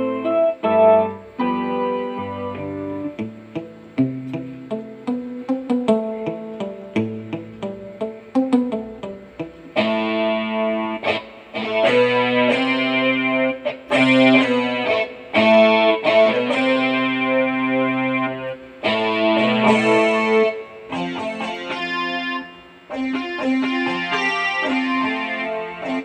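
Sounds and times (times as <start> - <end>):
keyboard playing sustained chords: 0.0 - 26.0.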